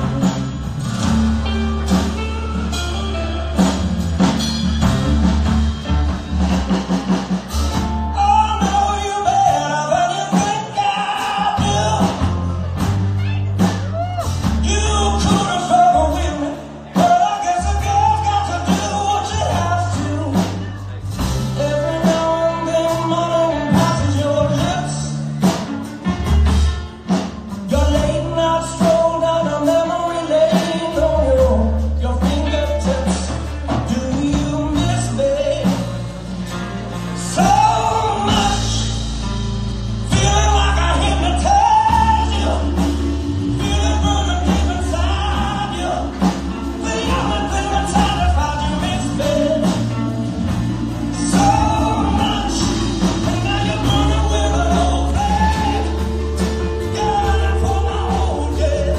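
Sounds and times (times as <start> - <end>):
rock band playing: 0.0 - 58.9
man singing lead: 7.8 - 26.0, 27.1 - 39.4, 40.0 - 58.9.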